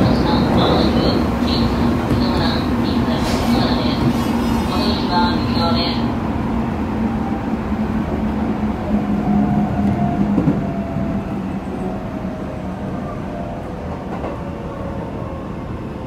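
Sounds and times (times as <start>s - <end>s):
train running noise: 0.0s - 16.0s.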